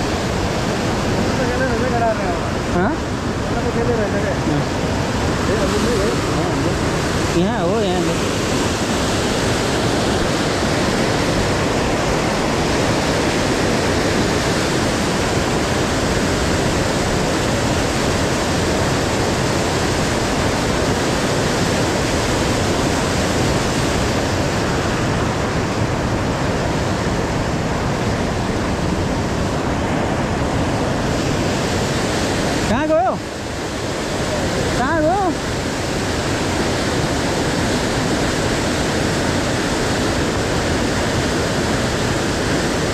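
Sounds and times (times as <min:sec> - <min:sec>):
river rapids rushing: 0:00.0 - 0:42.9.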